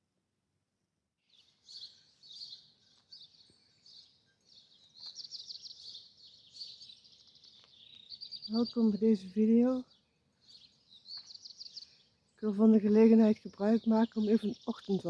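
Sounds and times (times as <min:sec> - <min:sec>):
songbirds chirping: 0:01.2 - 0:15.0.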